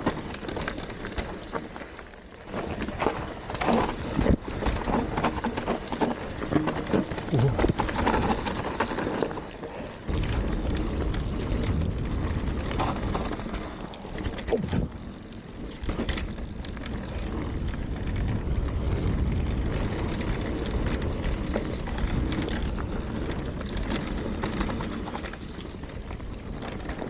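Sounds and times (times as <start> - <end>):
bike rattling over bumps: 0.0 - 27.0
bike tyres on dirt and leaves: 0.0 - 27.0
wind rumbling on microphone: 2.5 - 27.0.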